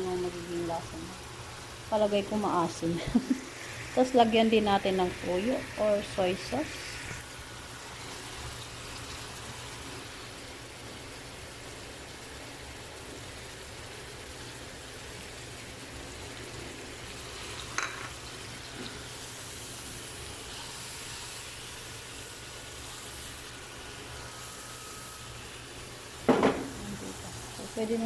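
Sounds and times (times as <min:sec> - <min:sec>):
fish sizzling in a frying pan: 0:00.0 - 0:28.0.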